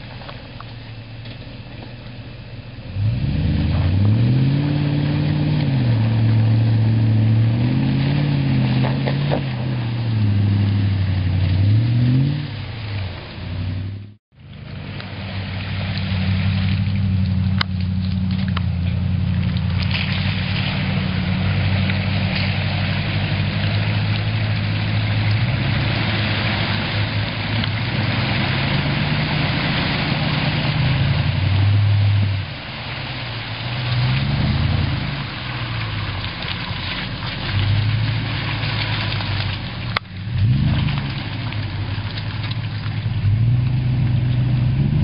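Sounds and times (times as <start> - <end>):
truck engine pulling at low revs: 0.0 - 45.0
water and mud splashing: 0.0 - 45.0.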